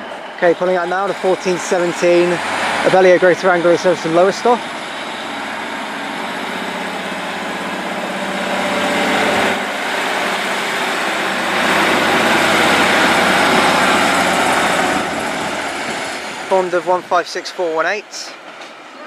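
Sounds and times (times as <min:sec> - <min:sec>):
diesel train engines working hard: 0:00.0 - 0:19.0.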